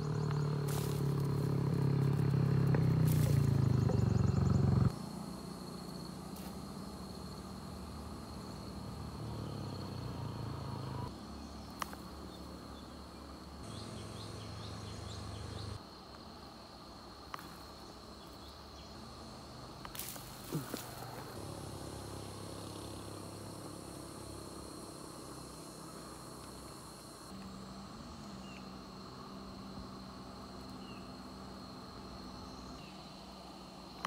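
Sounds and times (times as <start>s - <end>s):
low outdoor rumble: 0.0s - 15.8s, 17.8s - 32.8s
insect high-pitched drone: 0.0s - 34.0s.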